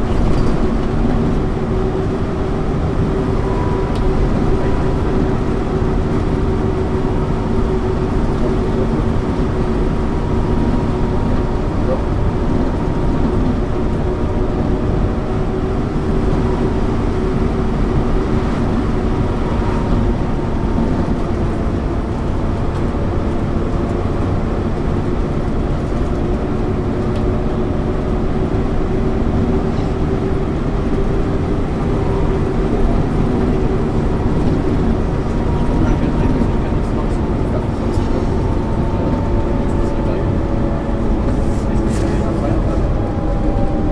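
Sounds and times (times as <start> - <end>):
bus engine drone: 0.0 - 43.9
road rumble: 0.0 - 43.9.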